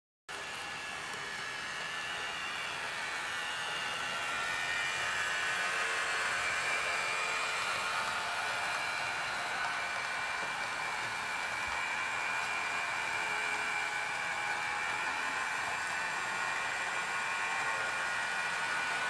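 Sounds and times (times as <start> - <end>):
constant high whine: 0.3 - 19.0
model train motor whirring: 0.3 - 19.0.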